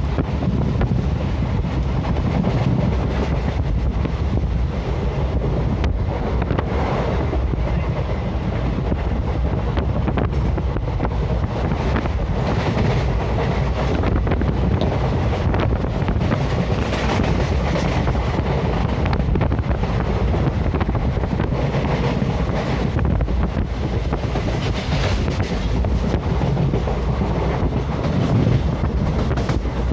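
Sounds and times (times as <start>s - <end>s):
train rumbling at speed: 0.0s - 29.9s
wind buffeting microphone: 0.0s - 29.9s.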